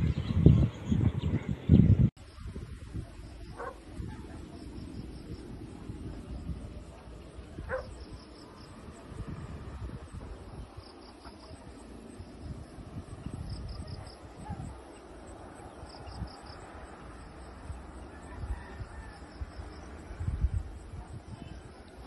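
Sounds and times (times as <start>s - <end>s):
low rumble on microphone: 0.0s - 22.0s.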